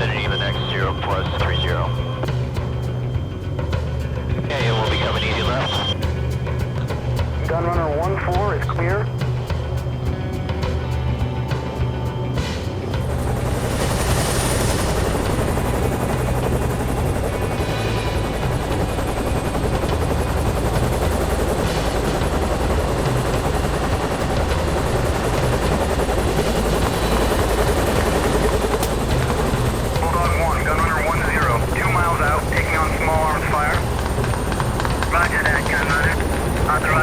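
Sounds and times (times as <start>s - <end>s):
helicopter rotor and turbine: 0.0s - 37.0s.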